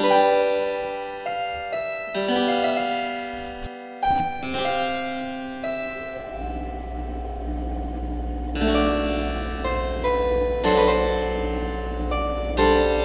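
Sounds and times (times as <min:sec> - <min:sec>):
keyboard chords: 0:00.0 - 0:13.0.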